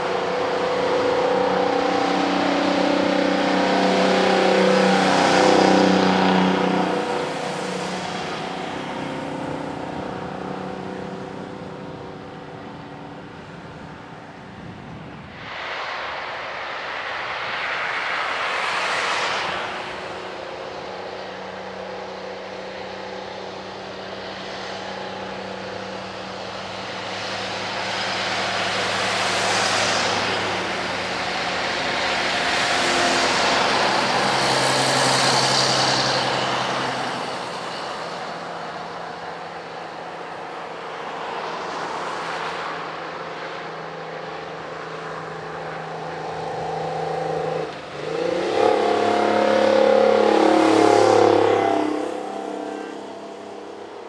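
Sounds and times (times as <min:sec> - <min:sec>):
old truck engines labouring uphill: 0:00.0 - 0:54.0
vehicle rushing by: 0:00.0 - 0:54.0.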